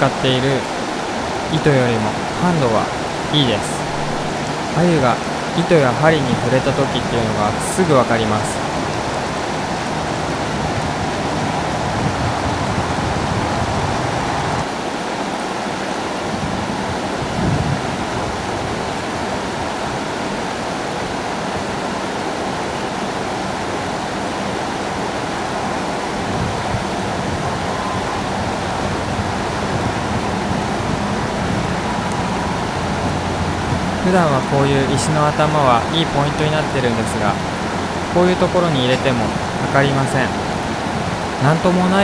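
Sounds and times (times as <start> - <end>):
river water flowing over stones: 0.0 - 42.0.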